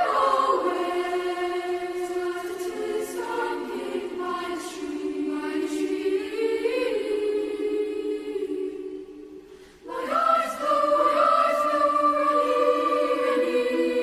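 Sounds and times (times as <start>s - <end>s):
girls' choir singing: 0.0s - 14.0s.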